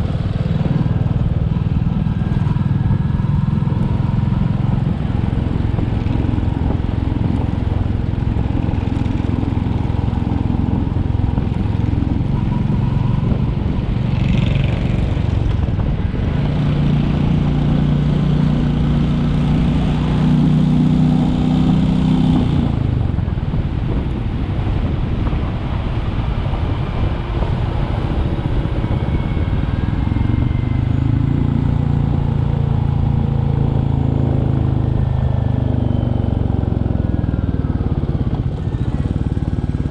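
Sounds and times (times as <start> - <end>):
single-cylinder motorcycle engine running: 0.0 - 39.9.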